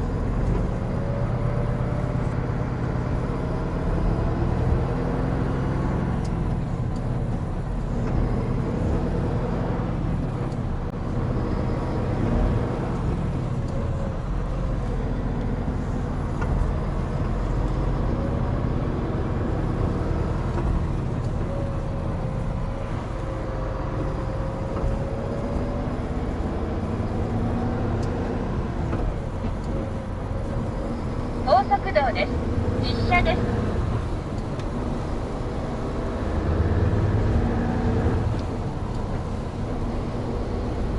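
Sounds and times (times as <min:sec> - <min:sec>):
road and tyre noise: 0:00.0 - 0:40.9
truck diesel engine drone: 0:00.0 - 0:40.9.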